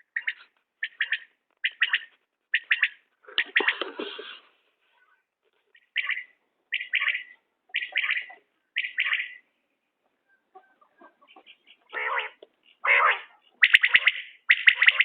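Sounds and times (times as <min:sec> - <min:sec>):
quail calling: 0:00.0 - 0:04.4, 0:05.7 - 0:09.5, 0:10.1 - 0:15.0.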